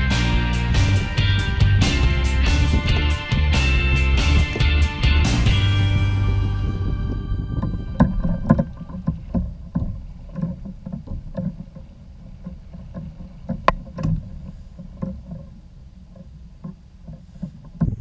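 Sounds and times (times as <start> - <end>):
water lapping against kayak hull: 0.8 - 18.0.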